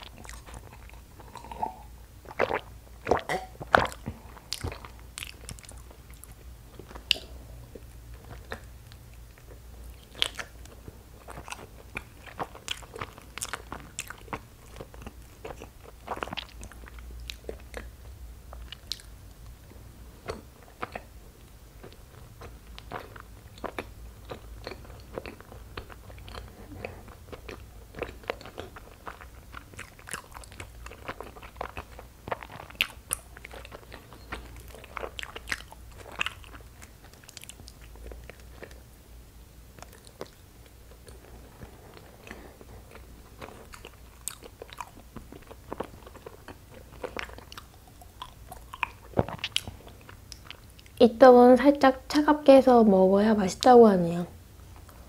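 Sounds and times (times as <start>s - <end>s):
person chewing sticky food: 0.0s - 39.0s, 39.6s - 51.0s.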